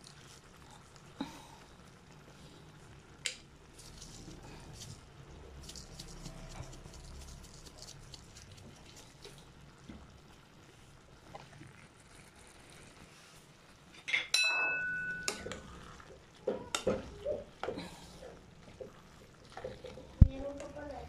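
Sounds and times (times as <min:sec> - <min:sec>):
pan simmering bubbling: 0:00.0 - 0:21.0.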